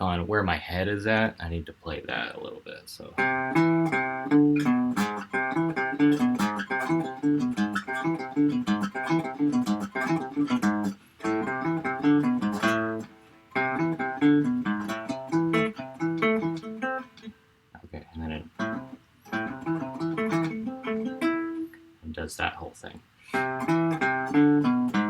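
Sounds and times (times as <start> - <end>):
guitar plucking single notes: 3.1 - 22.0, 23.3 - 25.0.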